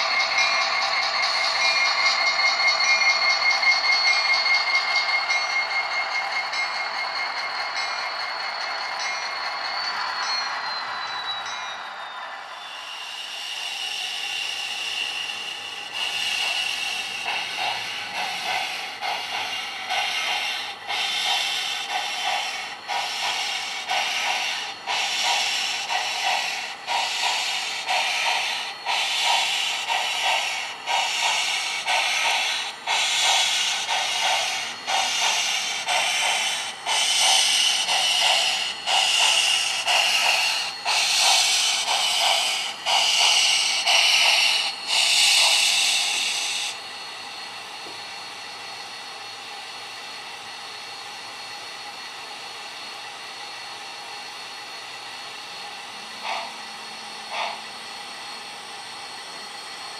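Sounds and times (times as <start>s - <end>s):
model steam locomotive hissing: 0.0s - 10.6s, 12.4s - 59.9s
steam locomotive chuffs: 0.0s - 59.9s.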